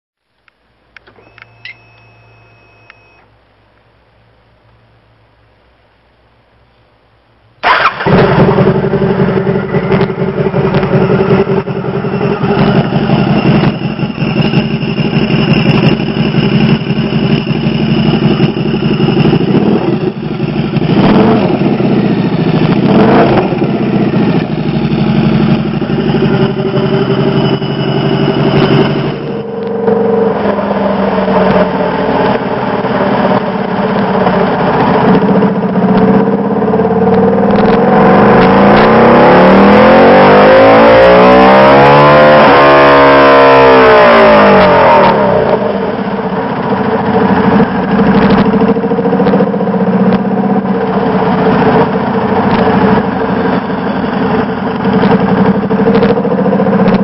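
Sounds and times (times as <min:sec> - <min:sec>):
motorcycle engine starting and running: 0:07.4 - 0:57.0.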